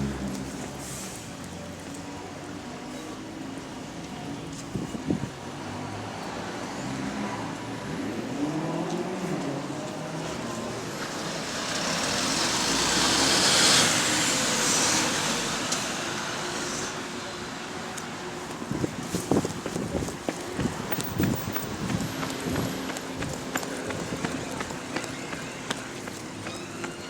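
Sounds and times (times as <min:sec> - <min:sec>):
bus road and running noise: 0:00.0 - 0:27.0.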